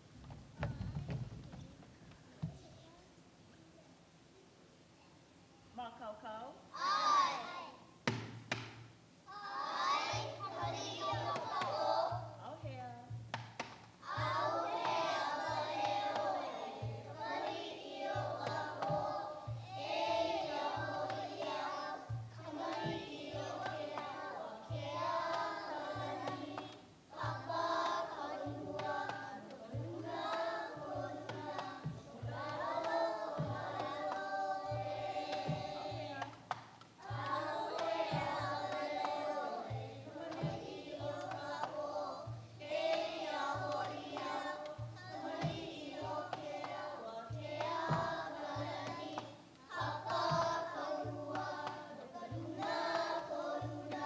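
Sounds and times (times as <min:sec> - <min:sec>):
children singing in unison: 0:06.8 - 0:07.8, 0:09.3 - 0:12.4, 0:14.0 - 0:36.4, 0:37.0 - 0:54.0.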